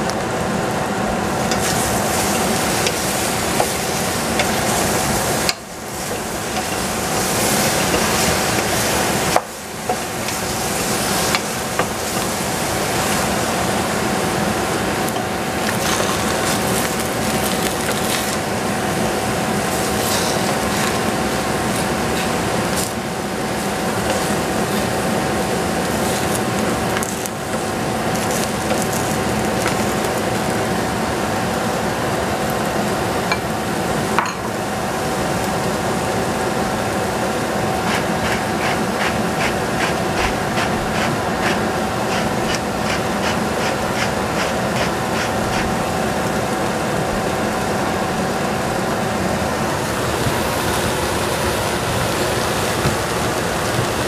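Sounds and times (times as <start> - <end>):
steady hiss and hum: 0.0 - 54.0.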